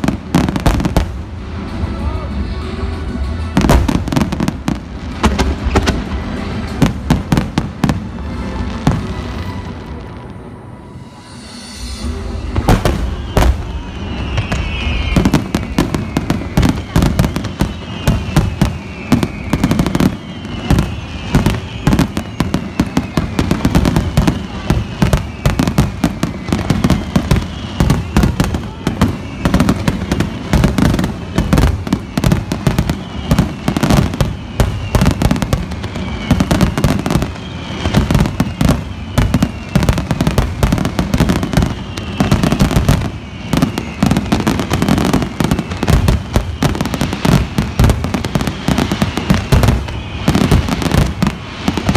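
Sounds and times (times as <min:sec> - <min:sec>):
fireworks booming and crackling: 0:00.0 - 0:10.5, 0:11.1 - 0:51.9.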